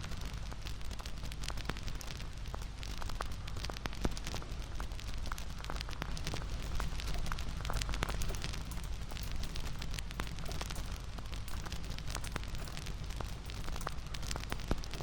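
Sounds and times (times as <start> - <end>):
bonfire crackling and popping: 0.0 - 15.0
low rush of burning wood: 0.0 - 15.0.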